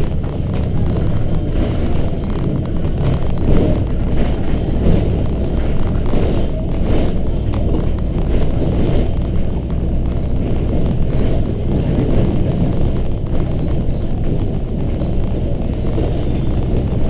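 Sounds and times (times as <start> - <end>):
diesel bus engine running: 0.0 - 17.0
tyre and road rumble: 0.0 - 17.0.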